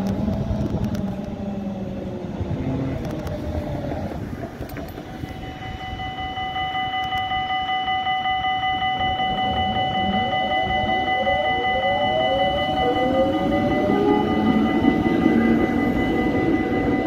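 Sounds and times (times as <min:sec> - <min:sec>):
pulsing high tone: 0:00.0 - 0:17.0
tram motors whining: 0:00.0 - 0:17.0.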